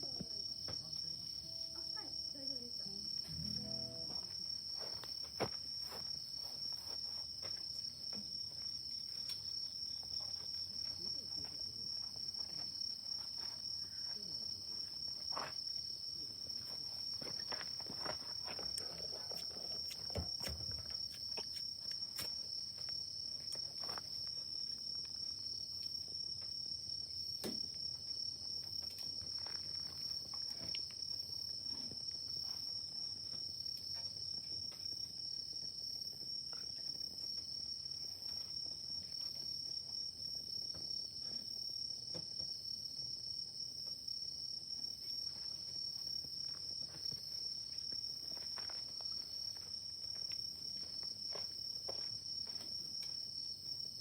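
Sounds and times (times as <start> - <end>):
insects trilling: 0.0 - 43.2, 43.9 - 54.0.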